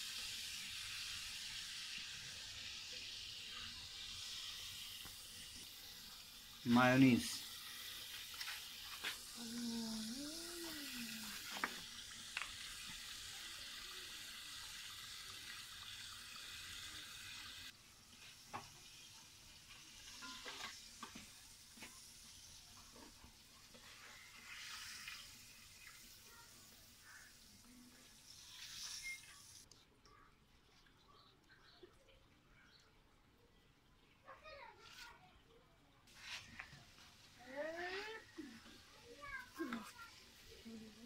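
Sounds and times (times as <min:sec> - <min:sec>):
faint steady hiss: 0:00.0 - 0:30.3, 0:31.0 - 0:41.0.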